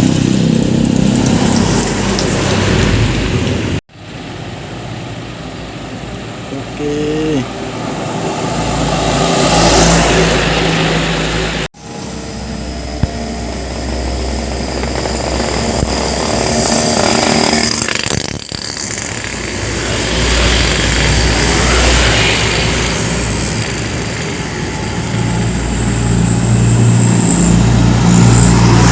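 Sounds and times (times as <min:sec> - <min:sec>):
diesel trucks passing: 0:00.0 - 0:28.9
tyre and road noise: 0:00.0 - 0:28.9.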